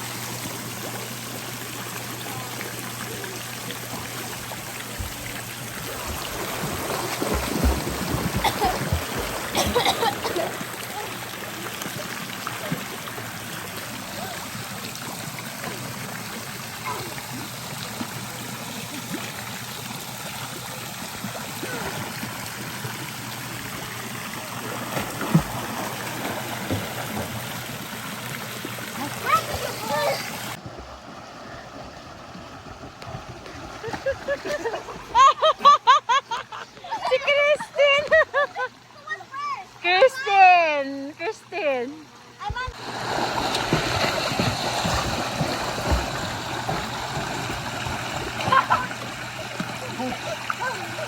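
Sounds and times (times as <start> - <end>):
running water rushing: 0.0 - 35.3, 41.5 - 51.0.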